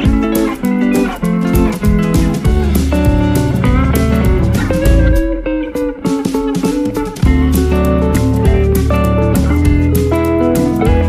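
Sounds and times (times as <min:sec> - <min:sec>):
bass line: 0:00.0 - 0:05.8, 0:06.7 - 0:11.0
guitar picking a melody: 0:00.0 - 0:11.0.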